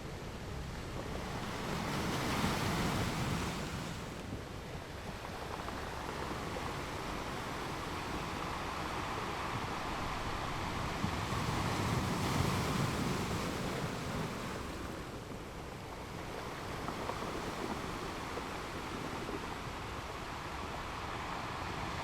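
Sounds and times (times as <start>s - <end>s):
ocean waves breaking on shore: 0.1s - 22.0s.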